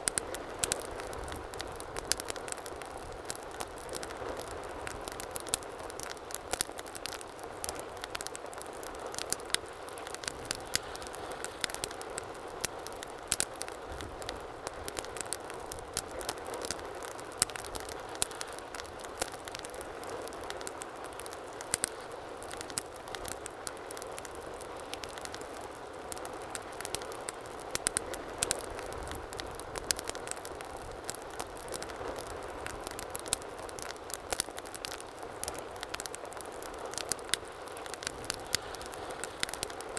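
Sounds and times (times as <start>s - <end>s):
fire crackling and popping: 0.0s - 39.9s
low rush of flame: 0.0s - 39.9s.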